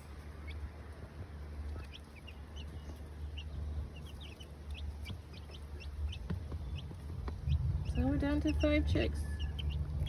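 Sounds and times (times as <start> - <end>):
chicks peeping: 0.0 - 10.0
low steady rumble: 0.0 - 10.0.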